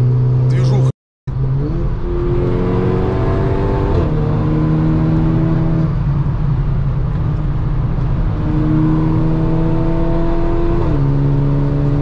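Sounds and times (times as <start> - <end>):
road and tyre noise: 0.0 - 12.0
car engine accelerating hard: 0.1 - 12.0.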